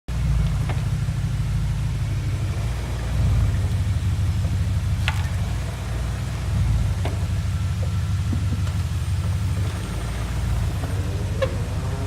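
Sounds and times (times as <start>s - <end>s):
car engine rumbling: 0.1s - 12.0s.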